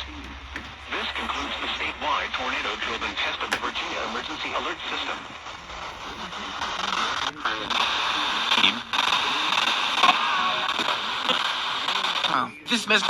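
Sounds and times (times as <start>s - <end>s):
radio static and hiss: 0.0s - 13.0s.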